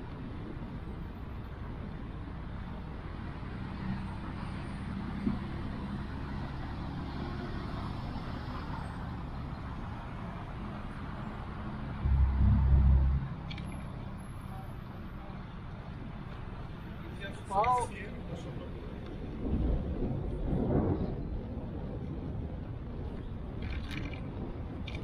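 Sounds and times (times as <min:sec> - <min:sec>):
wind noise: 0:00.0 - 0:14.2, 0:17.7 - 0:25.0
bicycle tyres on asphalt: 0:00.0 - 0:25.0.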